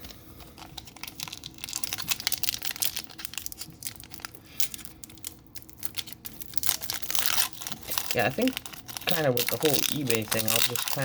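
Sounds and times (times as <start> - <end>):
foil wrapper tearing and crinkling: 0.4 - 11.0.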